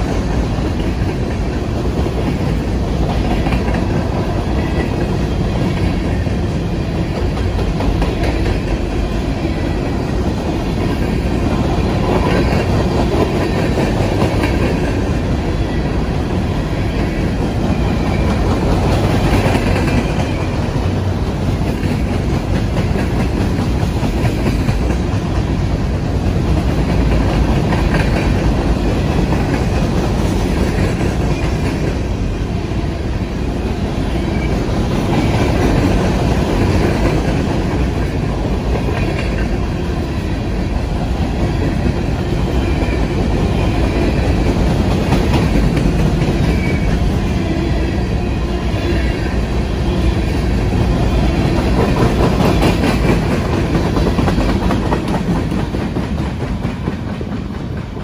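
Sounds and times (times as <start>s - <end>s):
train cars rumbling past: 0.0s - 58.0s
wheels clickety-clack on rails: 0.0s - 58.0s.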